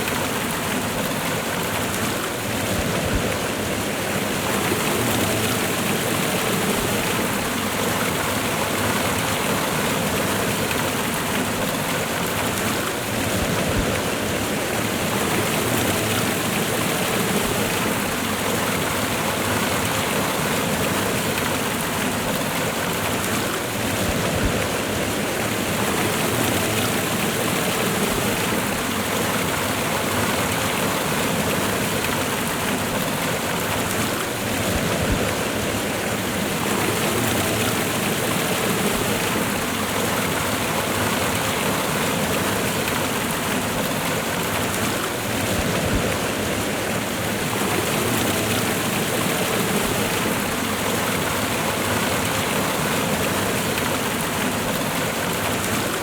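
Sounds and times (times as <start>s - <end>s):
waterfall and river rushing: 0.0s - 56.0s.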